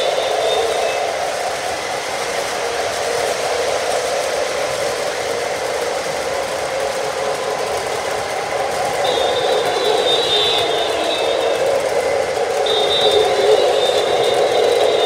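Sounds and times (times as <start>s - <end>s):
model locomotive motors: 0.0s - 15.0s
model train wheels rumbling on track: 0.0s - 15.0s.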